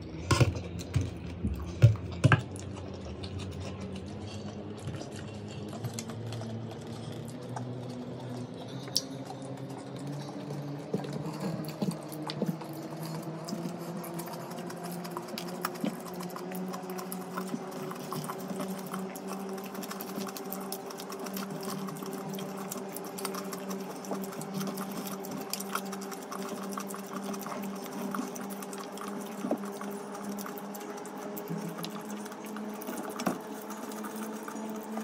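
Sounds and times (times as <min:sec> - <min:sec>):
steady machine hum: 0:00.0 - 0:35.0
wet chewing and lip-smacking: 0:00.0 - 0:35.0.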